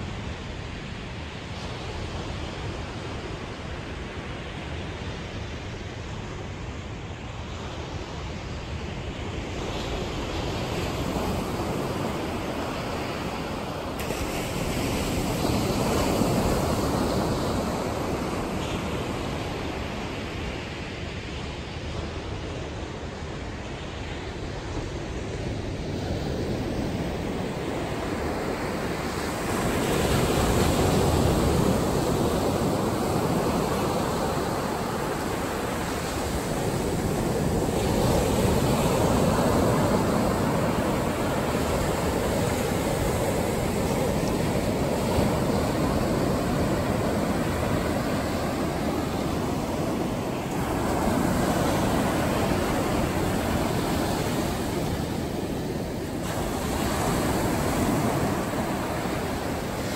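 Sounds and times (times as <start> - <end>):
small waves breaking on a beach: 0.0 - 59.9.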